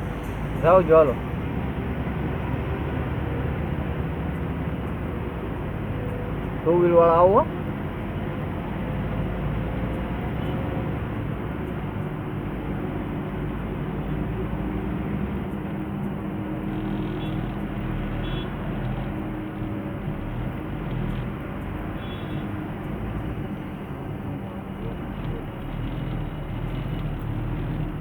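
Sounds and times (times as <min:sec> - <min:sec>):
diesel truck engine droning: 0:00.0 - 0:28.0
road noise: 0:00.0 - 0:28.0.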